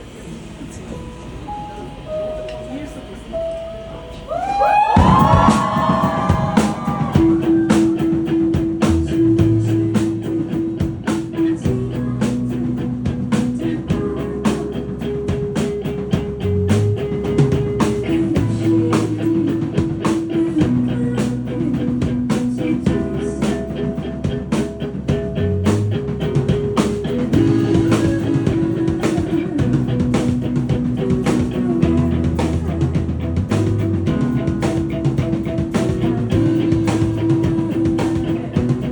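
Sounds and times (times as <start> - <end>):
bass guitar notes: 1.2 - 38.9
electric guitar: 3.4 - 38.9
drum kit beat with cymbals: 4.4 - 38.9.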